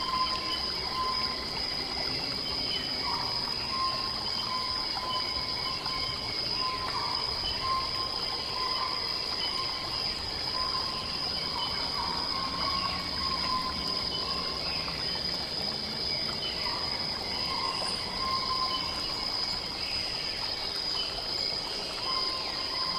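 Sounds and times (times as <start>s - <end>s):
high insect trill: 0.0s - 22.9s.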